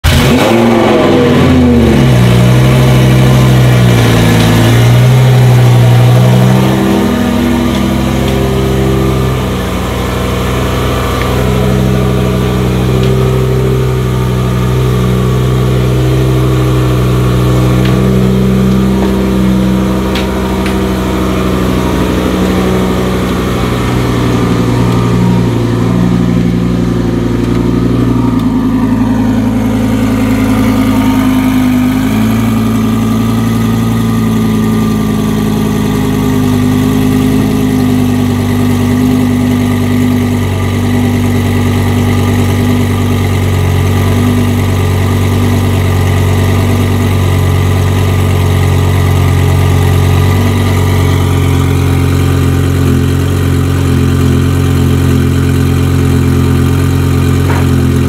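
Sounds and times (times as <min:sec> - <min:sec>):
sports car engine idling: 0:00.0 - 0:58.0.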